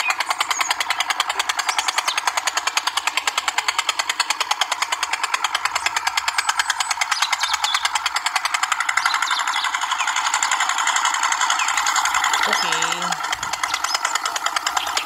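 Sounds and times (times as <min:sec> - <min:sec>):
small diesel engine clatter: 0:00.0 - 0:15.0.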